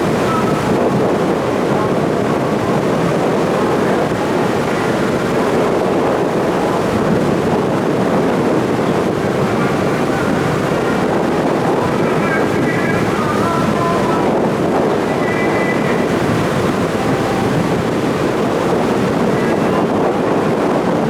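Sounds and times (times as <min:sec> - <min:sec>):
ferry engine rumble: 0:00.0 - 0:21.0
wind buffeting microphone: 0:00.0 - 0:21.0.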